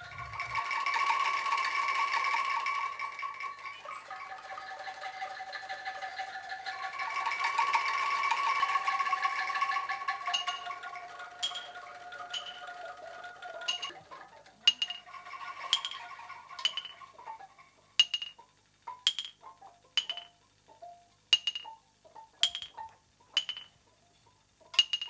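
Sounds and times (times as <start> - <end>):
held ringing tone: 0.0 - 5.1, 5.8 - 18.4, 19.0 - 19.4, 20.0 - 21.8, 22.4 - 23.8, 24.8 - 25.0
bamboo clacking: 0.0 - 25.0.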